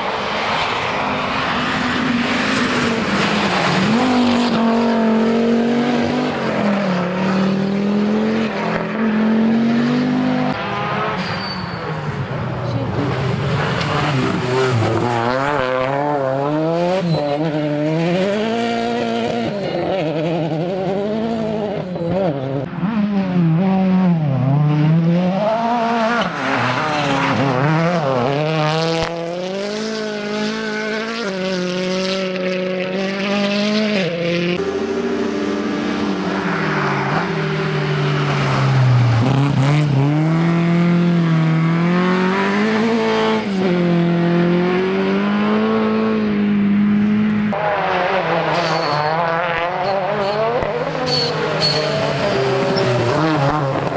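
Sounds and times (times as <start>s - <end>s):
rally cars passing at speed: 0.0s - 53.9s.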